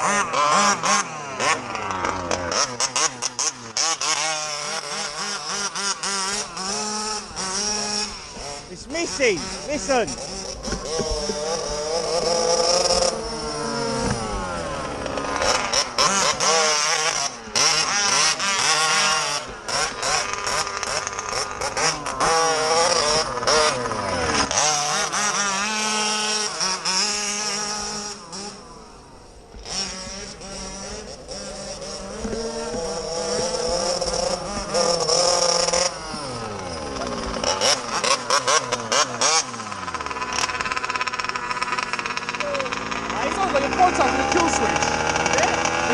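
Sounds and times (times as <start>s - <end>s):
two-stroke engine revving: 0.0s - 45.9s.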